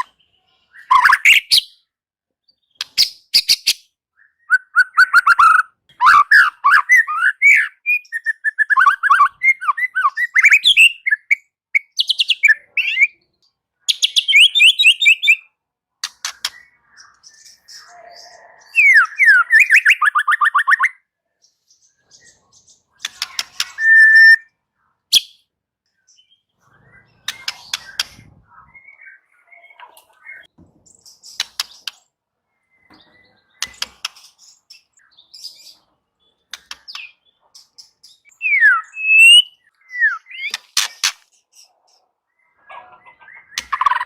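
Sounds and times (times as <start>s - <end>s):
bird singing: 0.0s - 44.0s.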